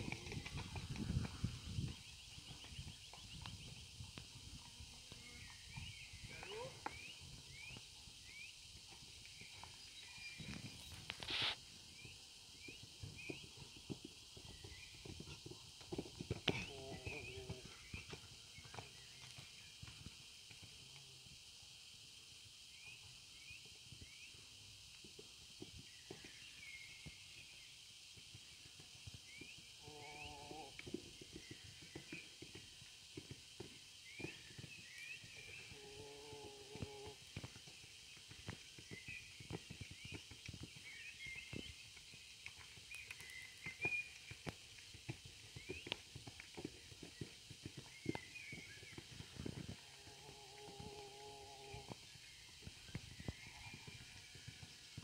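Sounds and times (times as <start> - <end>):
horse hooves cantering on sand: 0.0 - 22.0, 22.8 - 55.0
quiet outdoor hiss: 0.0 - 55.0.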